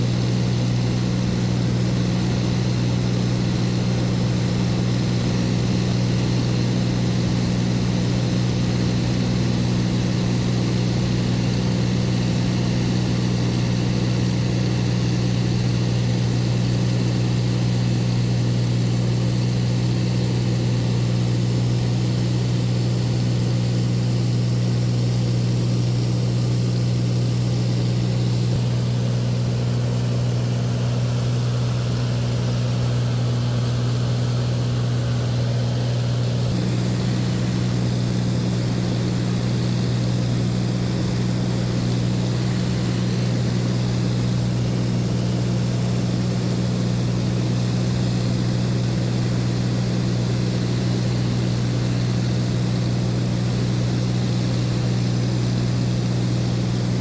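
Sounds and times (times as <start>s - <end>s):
propeller aircraft droning: 0.0s - 57.0s.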